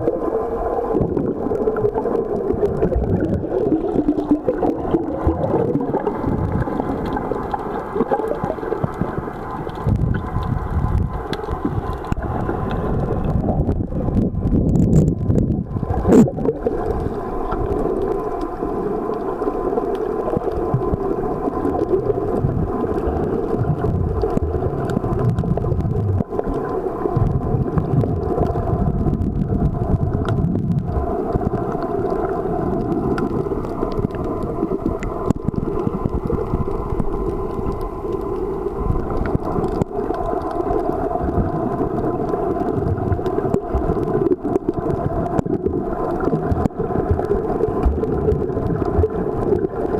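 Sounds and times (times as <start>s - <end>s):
muffled underwater rumble: 0.0s - 49.9s.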